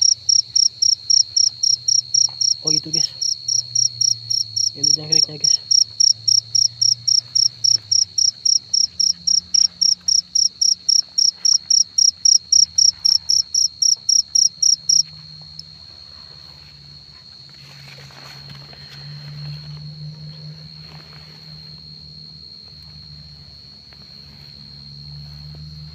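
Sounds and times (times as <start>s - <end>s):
cricket chirping: 0.0s - 25.9s
insect trill: 0.0s - 25.9s.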